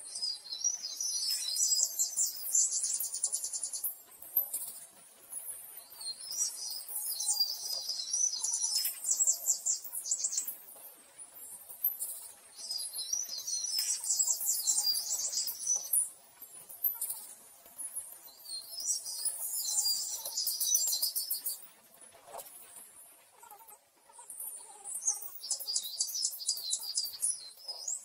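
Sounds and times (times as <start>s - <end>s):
birds chirping and trilling: 0.0s - 21.6s, 22.3s - 28.0s.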